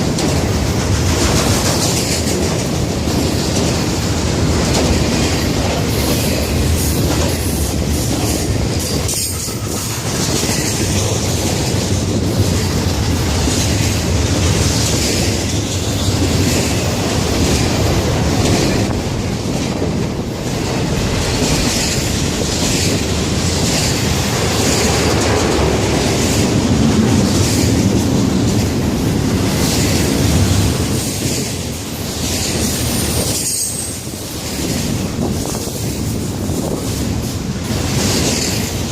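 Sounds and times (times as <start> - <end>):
freight train cars rumbling past: 0.0 - 38.9.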